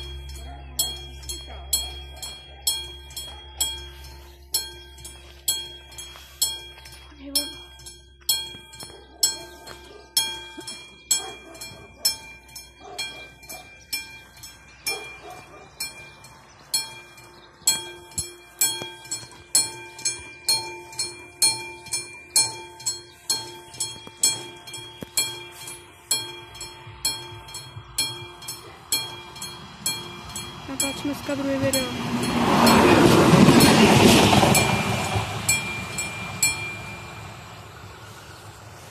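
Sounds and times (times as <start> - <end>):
level crossing warning bell: 0.0 - 38.1
diesel railcar passing: 0.0 - 38.9.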